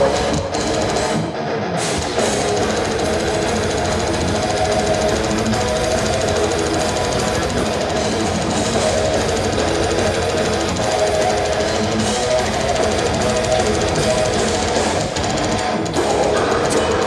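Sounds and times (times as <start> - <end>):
live death metal band: 0.0 - 17.0.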